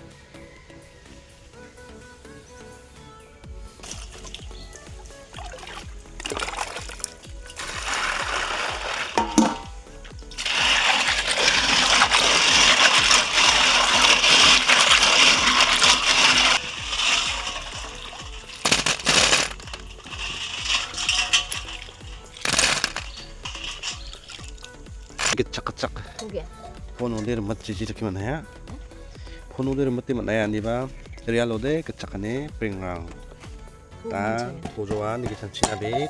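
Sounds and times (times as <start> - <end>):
background music with low beat: 0.0 - 36.0.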